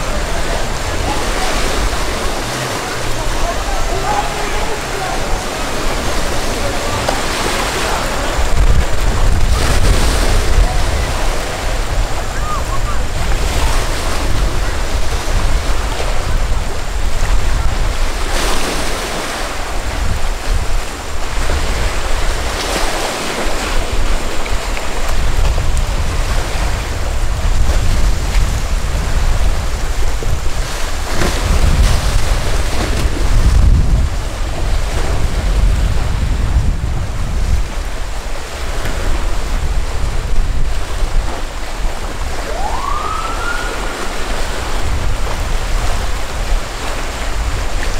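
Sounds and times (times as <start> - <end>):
surf and breaking waves: 0.0 - 47.9
wind rumbling on microphone: 0.0 - 47.9.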